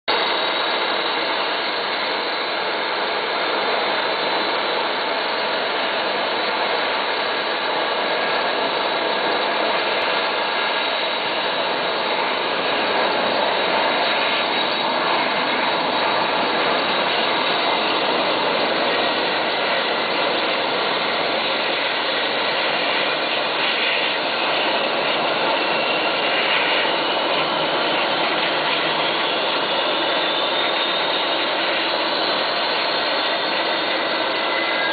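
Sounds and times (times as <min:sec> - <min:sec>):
jet engines whining: 0:00.1 - 0:34.9.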